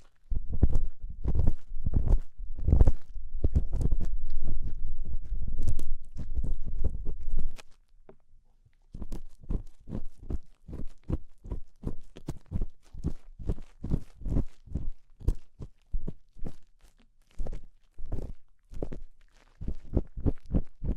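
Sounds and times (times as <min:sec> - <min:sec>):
scraping and rubbing on microphone: 0:00.0 - 0:07.8, 0:08.8 - 0:20.9.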